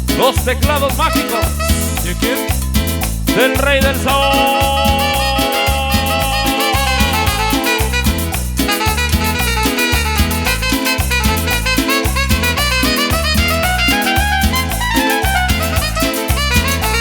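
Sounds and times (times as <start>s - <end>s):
tropical dance-band music: 0.0s - 17.0s
electronic keyboard melody: 1.2s - 17.0s.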